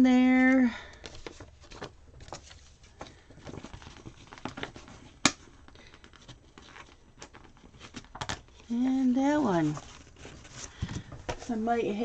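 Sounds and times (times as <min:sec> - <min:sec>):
paper sticker sheets rustling: 0:00.4 - 0:12.0.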